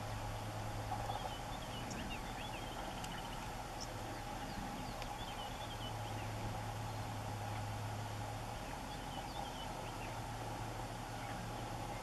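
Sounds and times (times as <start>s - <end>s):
small birds chirping: 0.0s - 7.7s, 8.4s - 12.0s
steady low hum: 0.0s - 12.0s.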